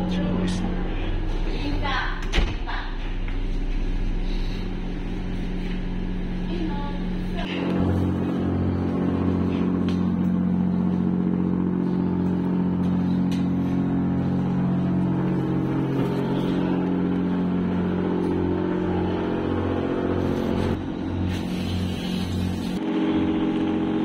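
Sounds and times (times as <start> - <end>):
diesel engine droning: 0.0 - 2.2, 2.9 - 24.0.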